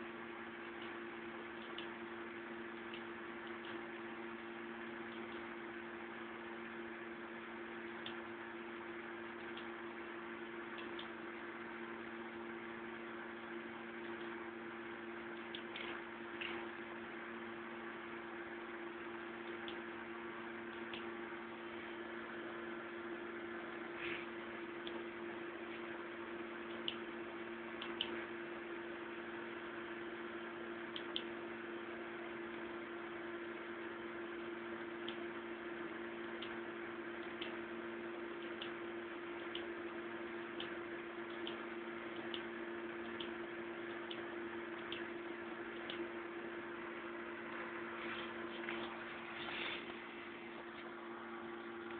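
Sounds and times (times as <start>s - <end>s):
low electrical hum: 0.0s - 51.9s.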